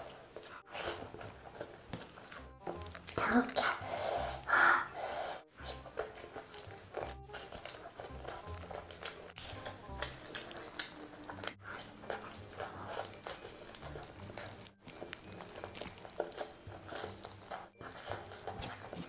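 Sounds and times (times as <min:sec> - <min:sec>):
woman chewing and smacking: 0:00.0 - 0:03.8, 0:05.4 - 0:19.0
crunching: 0:00.0 - 0:04.5, 0:05.5 - 0:19.0.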